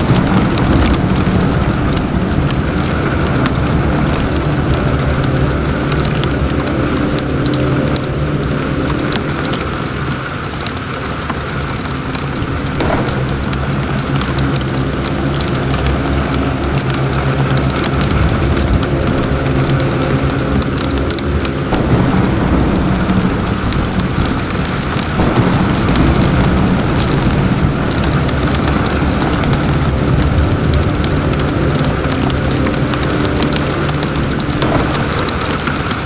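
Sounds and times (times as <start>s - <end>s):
heavy rain on car windshield: 0.0s - 36.0s
low car drone: 0.0s - 36.0s.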